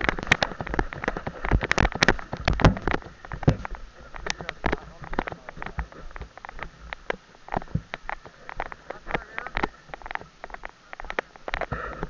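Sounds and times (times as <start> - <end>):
low rumbling bumps: 0.0 - 10.7.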